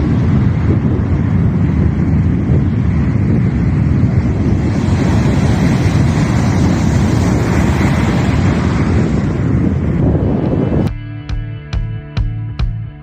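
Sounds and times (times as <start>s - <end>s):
sea waves breaking: 0.0s - 10.9s
wind rumbling on microphone: 0.0s - 11.0s.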